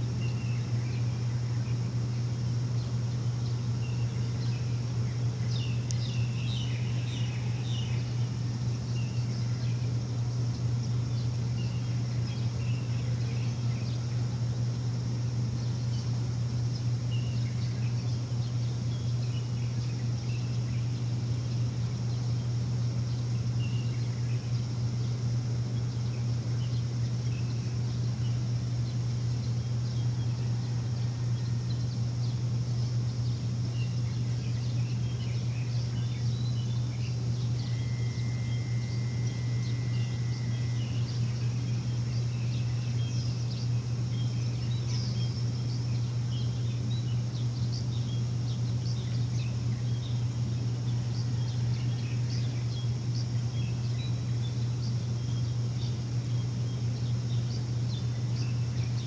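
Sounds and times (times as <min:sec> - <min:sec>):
birds chirping: 0:00.0 - 0:59.0
low machine hum: 0:00.0 - 0:59.0.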